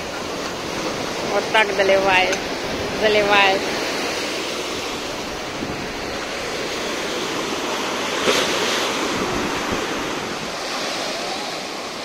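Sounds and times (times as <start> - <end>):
waves breaking on sand: 0.0 - 12.0.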